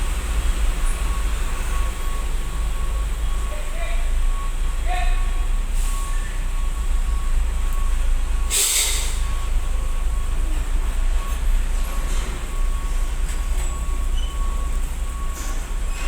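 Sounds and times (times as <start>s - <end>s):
low rumble of heavy engines: 0.0s - 16.0s.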